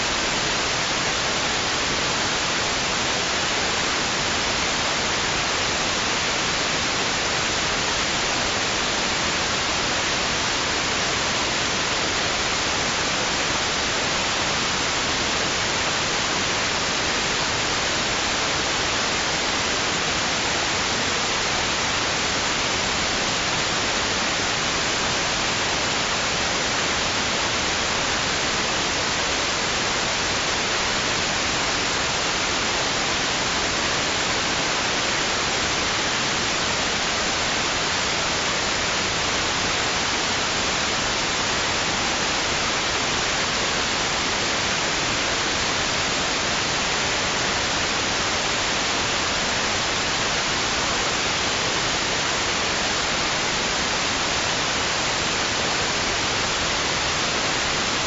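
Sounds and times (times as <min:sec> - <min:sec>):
steady white noise hiss: 0:00.0 - 0:58.0.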